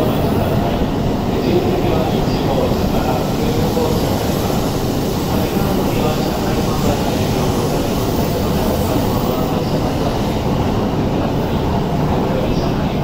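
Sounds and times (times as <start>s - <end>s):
faint voices: 0.0s - 13.0s
train rumbling: 0.0s - 13.0s.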